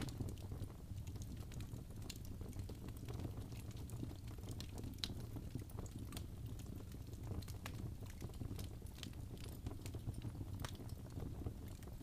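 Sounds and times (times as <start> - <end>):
logs crackling and popping: 0.0 - 12.0
low rumble of flames: 0.0 - 12.0.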